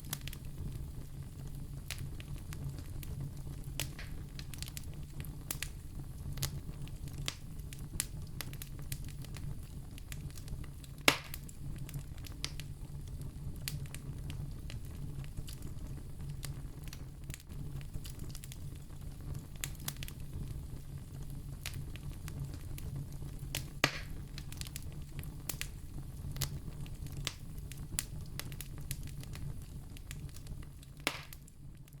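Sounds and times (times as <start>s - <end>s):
firewood burning and crackling: 0.0s - 32.0s
sharp pops from fire: 0.0s - 32.0s.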